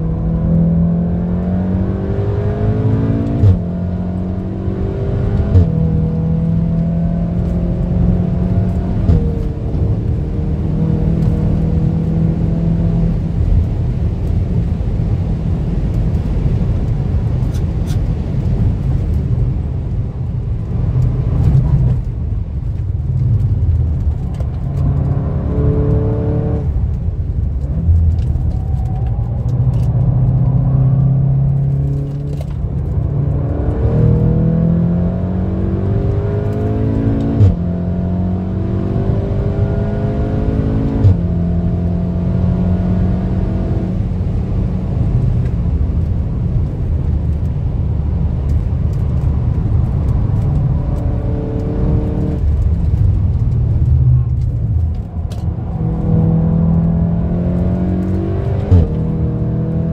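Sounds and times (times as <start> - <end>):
car engine revving: 0.0 - 13.5, 23.1 - 46.1, 48.4 - 59.9
road and tyre noise: 0.0 - 59.9.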